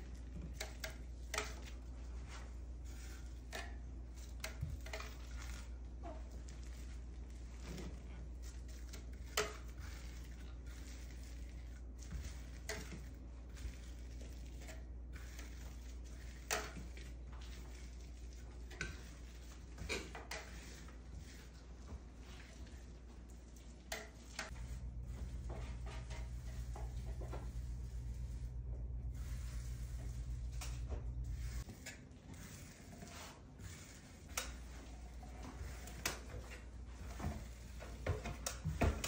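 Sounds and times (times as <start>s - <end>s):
trowel scraping plaster on wall: 0.0s - 22.9s, 29.1s - 39.0s
steady low hum: 0.0s - 39.0s.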